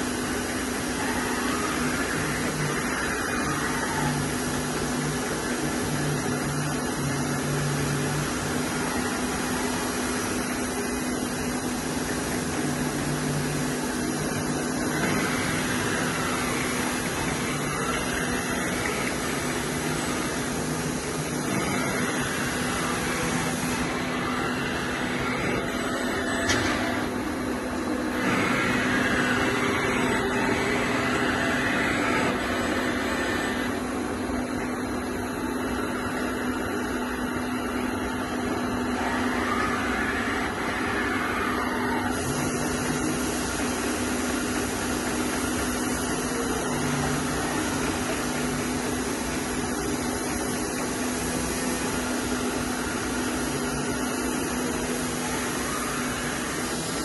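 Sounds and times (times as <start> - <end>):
lathe machine hum: 0.0 - 57.0
rising and falling whines: 0.0 - 57.0.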